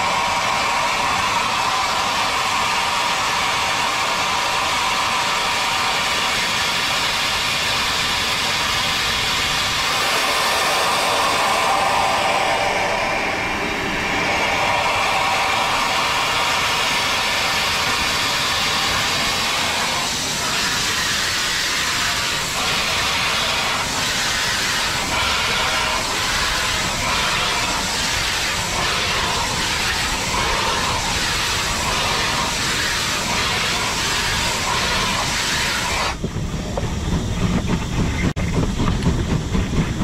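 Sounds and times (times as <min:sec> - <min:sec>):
faint regular locomotive beat: 0:00.0 - 0:40.0
steam hissing: 0:00.0 - 0:40.0.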